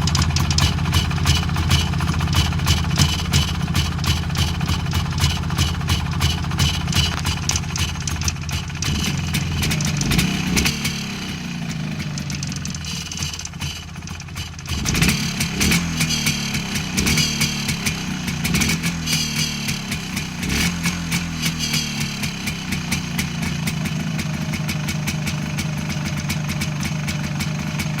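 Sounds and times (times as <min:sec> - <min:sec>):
odd mechanical engine noise: 0:00.0 - 0:28.0
two-stroke motorcycle engine running: 0:00.0 - 0:28.0.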